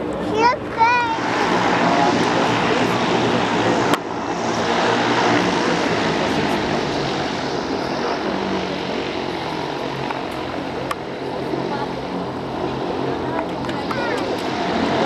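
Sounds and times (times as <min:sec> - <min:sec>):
airship propeller drone: 0:00.0 - 0:15.0.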